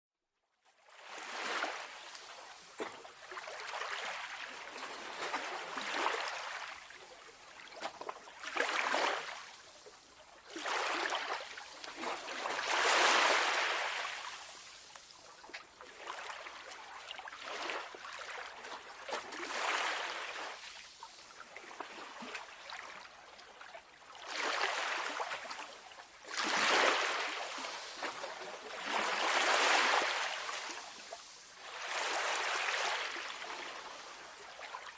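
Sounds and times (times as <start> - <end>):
calm sea waves: 0.6 - 34.9.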